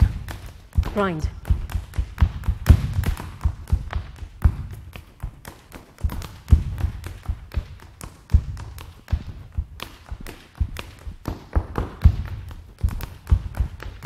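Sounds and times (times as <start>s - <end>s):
dance shoes tapping on floor: 0.0s - 14.0s.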